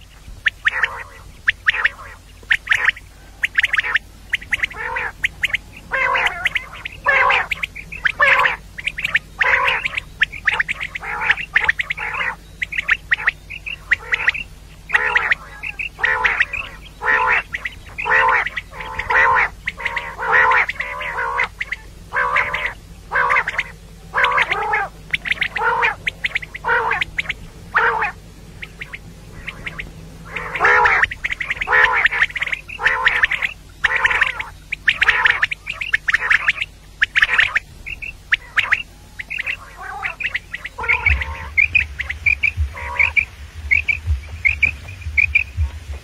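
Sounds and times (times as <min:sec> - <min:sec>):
quails squawking: 0:00.0 - 0:46.0.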